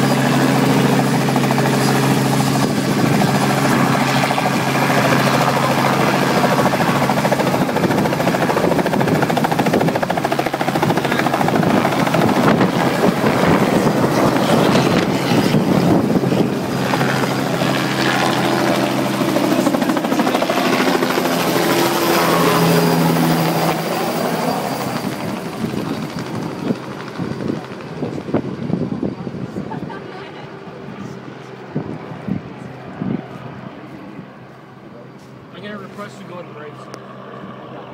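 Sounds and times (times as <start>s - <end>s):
helicopter flying: 0.0s - 37.9s.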